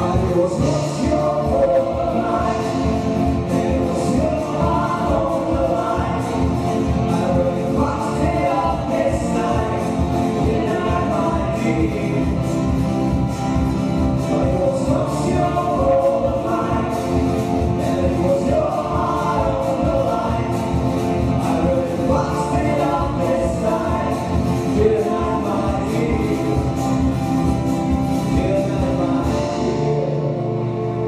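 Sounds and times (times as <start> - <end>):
female and male voices singing: 0.0 - 13.3, 14.0 - 30.8
acoustic guitar: 0.0 - 31.0
double bass: 0.0 - 31.0
drums: 0.0 - 31.0.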